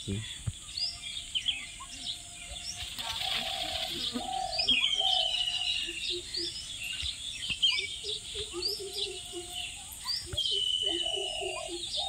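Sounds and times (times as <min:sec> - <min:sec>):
long level bird call: 0:00.0 - 0:12.0
small birds chirping: 0:00.0 - 0:12.0.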